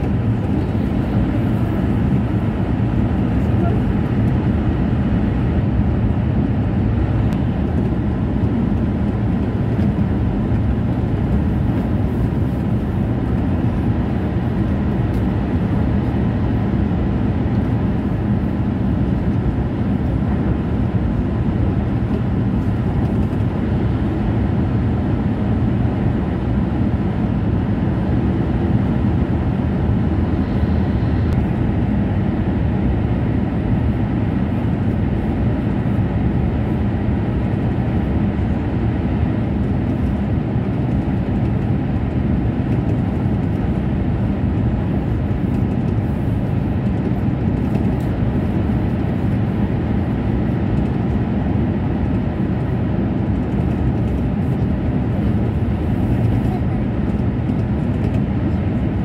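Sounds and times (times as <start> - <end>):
train interior rumble: 0.0 - 59.0.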